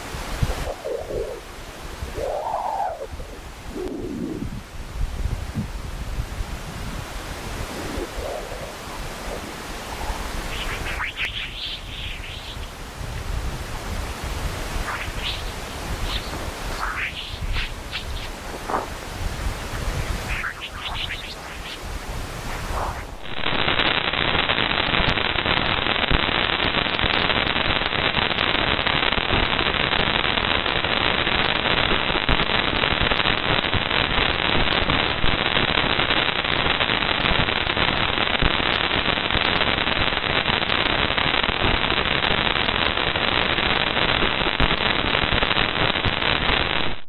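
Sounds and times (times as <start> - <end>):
crackling hiss with sharp pops: 0.0 - 47.0.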